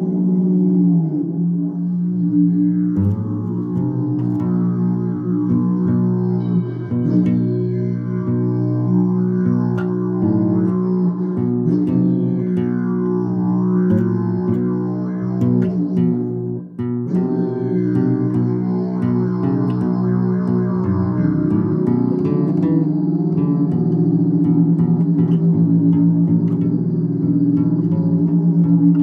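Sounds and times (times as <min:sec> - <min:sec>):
didgeridoo drone: 0:00.0 - 0:29.0.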